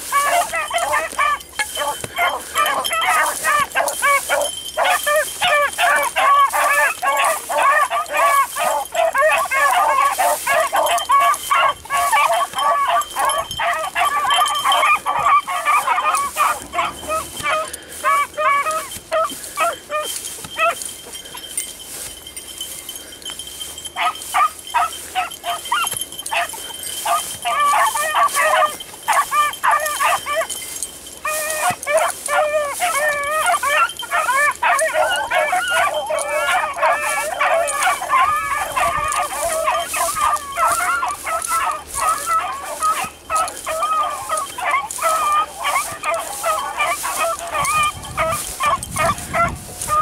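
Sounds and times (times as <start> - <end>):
hounds baying and yelping: 0.0 - 50.0.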